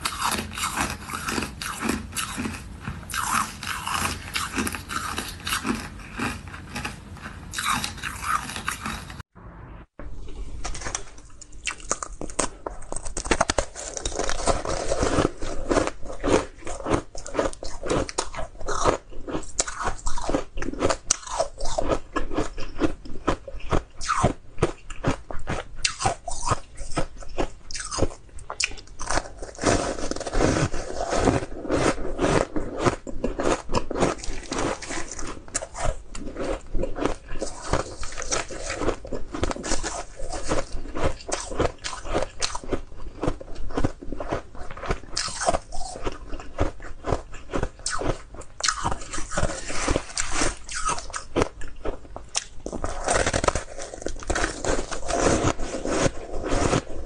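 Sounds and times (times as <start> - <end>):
ice crunching while chewed: 0.0 - 9.2, 10.3 - 57.0.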